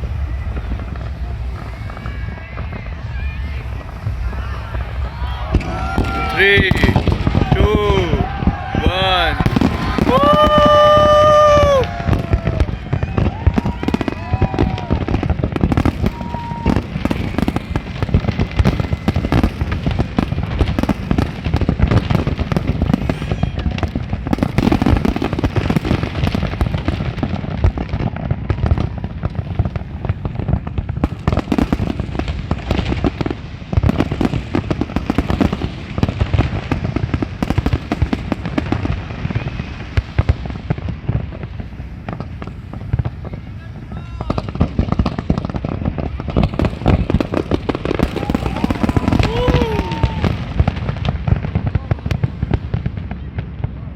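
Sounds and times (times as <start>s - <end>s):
fireworks booming and crackling: 0.0s - 53.9s.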